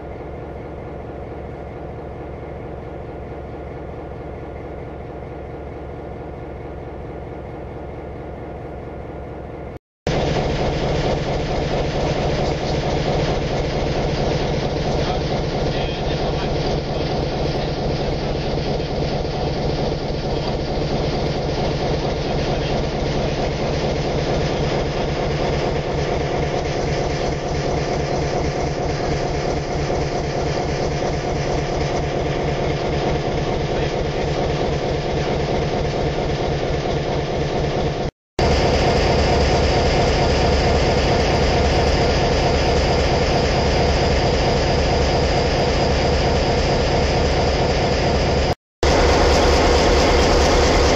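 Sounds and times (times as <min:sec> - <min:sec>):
diesel locomotive engine idling: 0:00.0 - 0:50.9.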